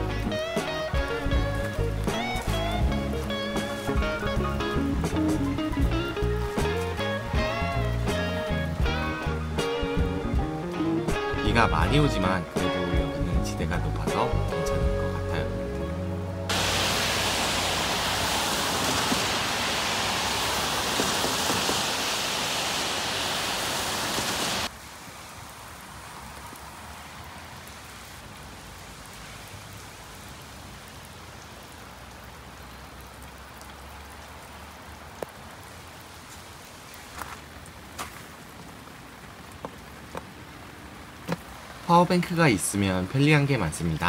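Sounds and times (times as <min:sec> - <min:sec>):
steady rain falling: 0:00.0 - 0:15.4, 0:16.5 - 0:44.0.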